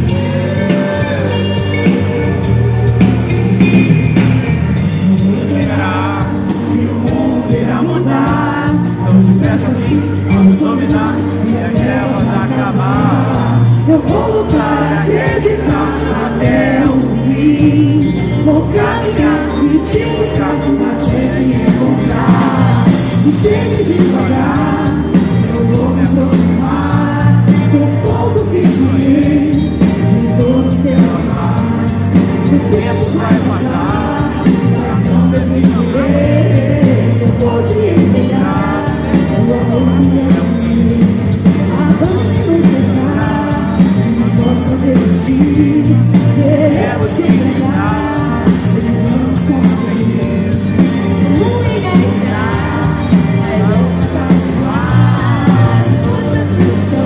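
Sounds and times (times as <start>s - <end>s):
loud band playing: 0.0s - 57.0s
person singing live: 0.0s - 57.0s.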